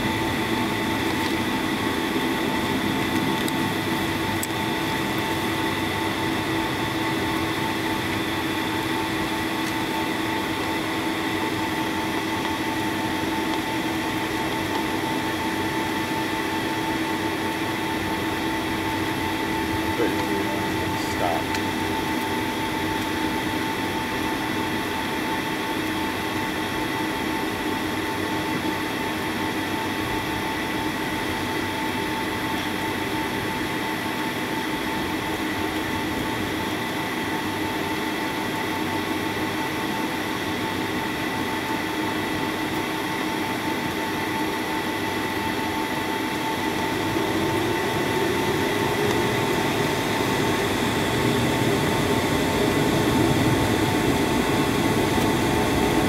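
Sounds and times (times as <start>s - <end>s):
jet engines whining in cabin: 0.0s - 56.0s.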